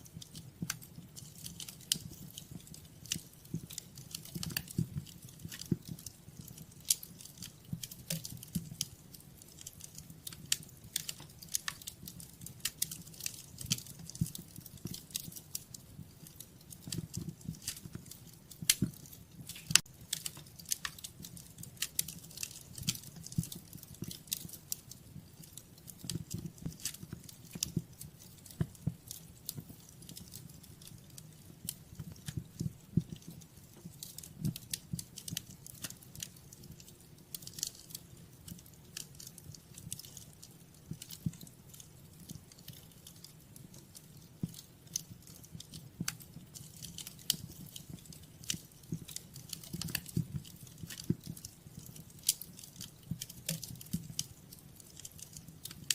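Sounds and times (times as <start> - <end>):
low rumble of flames: 0.0 - 55.9
wood fire crackling: 0.0 - 55.9.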